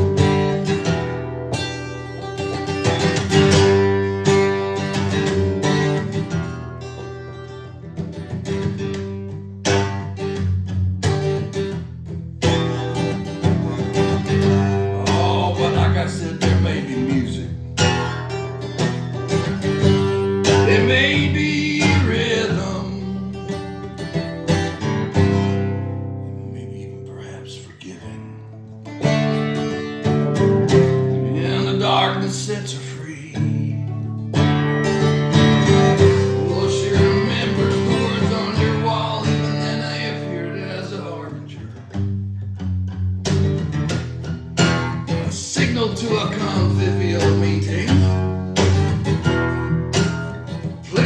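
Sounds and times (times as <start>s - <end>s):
acoustic guitar strummed and picked: 0.0s - 51.0s.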